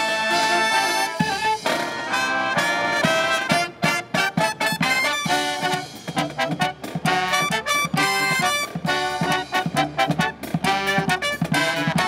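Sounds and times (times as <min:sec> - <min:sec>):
brass band chords: 0:00.0 - 0:12.0.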